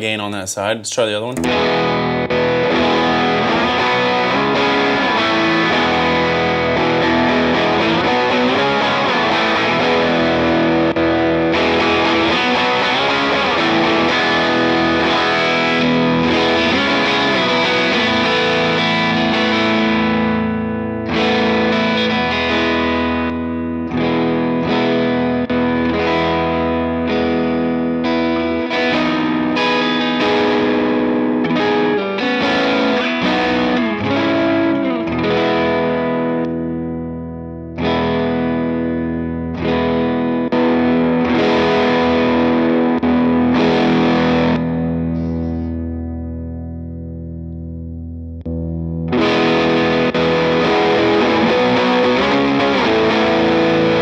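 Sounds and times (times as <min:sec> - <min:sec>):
overdriven electric guitar chords: 0:01.2 - 0:54.0.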